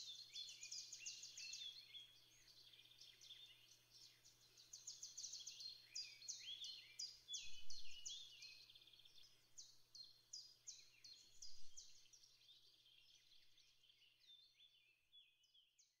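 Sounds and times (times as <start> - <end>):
woodland birds singing: 0.0 - 16.0.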